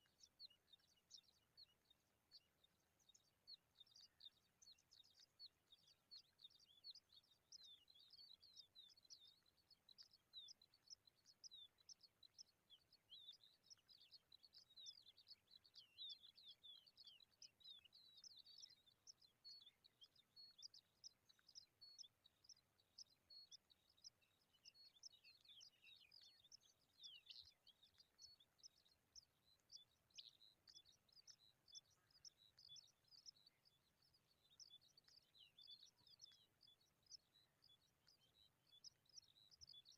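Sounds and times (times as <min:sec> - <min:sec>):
baby birds chirping: 0:03.2 - 0:39.9.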